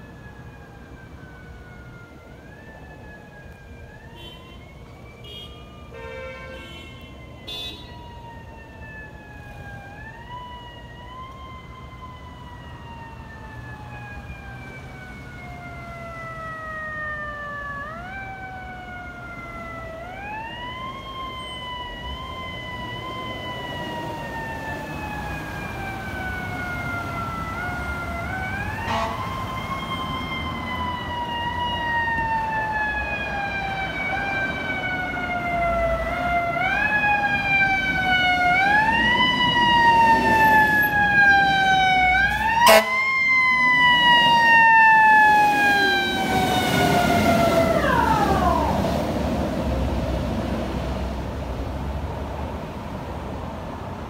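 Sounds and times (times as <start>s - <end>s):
mechanical fire engine siren: 0.0s - 51.9s.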